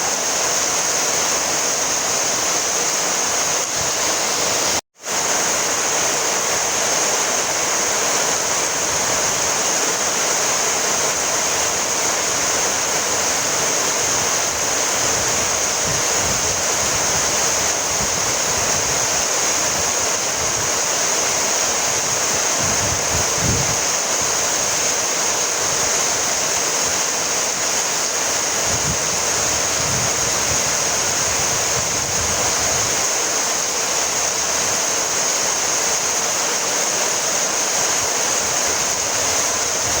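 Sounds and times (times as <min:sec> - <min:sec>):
steady rainfall: 0:00.0 - 0:40.0.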